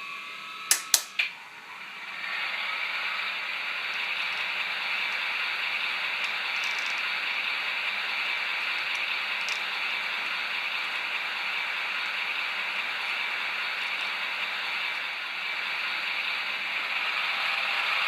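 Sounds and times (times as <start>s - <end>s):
model locomotive hiss: 1.4s - 18.0s.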